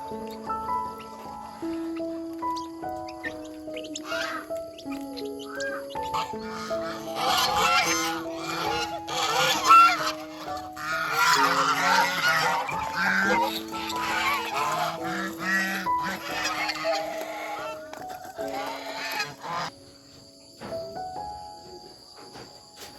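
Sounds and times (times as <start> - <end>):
geese honking: 0.0 - 19.8
soft background music: 0.0 - 22.9.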